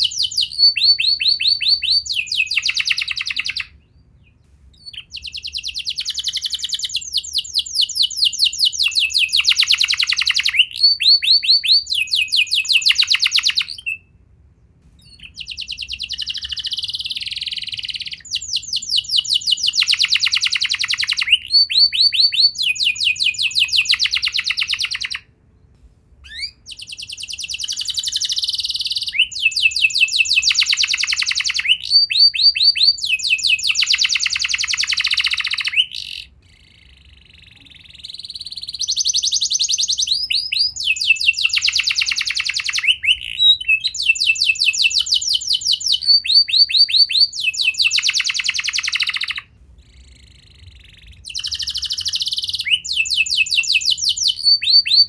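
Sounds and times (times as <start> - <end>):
canary singing trills: 0.0 - 14.2, 15.0 - 25.3, 26.2 - 55.0.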